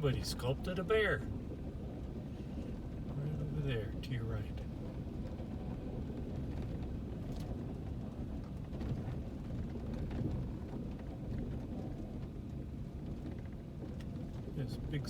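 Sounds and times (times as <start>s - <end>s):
vehicle rumbling over bumpy road: 0.0s - 15.0s.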